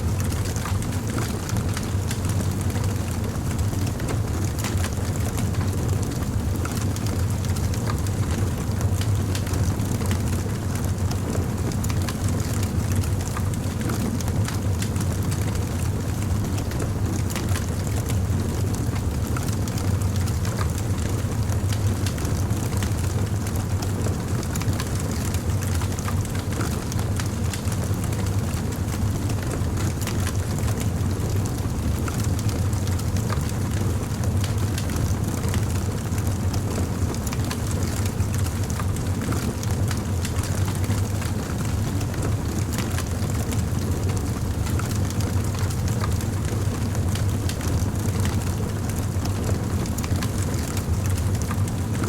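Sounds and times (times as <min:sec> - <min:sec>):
wood fire crackling: 0:00.2 - 0:01.4, 0:08.6 - 0:09.6, 0:10.2 - 0:24.0, 0:24.8 - 0:52.0.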